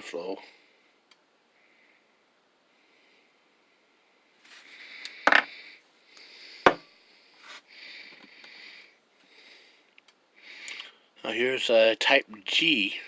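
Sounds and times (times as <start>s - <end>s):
soft breathing: 0.4s - 11.2s.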